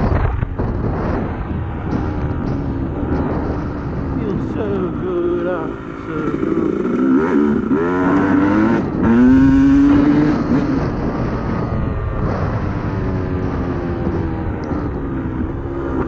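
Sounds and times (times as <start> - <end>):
dirt bike engine revving: 0.8 - 16.0.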